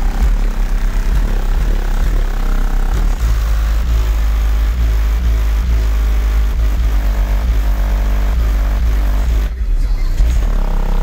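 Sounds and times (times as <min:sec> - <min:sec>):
bass-heavy music from car speakers: 0:00.0 - 0:11.0.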